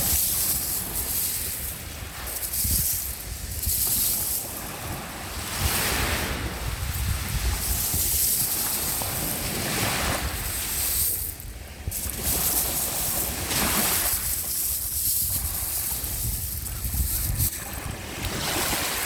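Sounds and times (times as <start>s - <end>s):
small waves washing at shore: 0.0s - 19.0s
wind rumble on microphone: 0.0s - 19.0s.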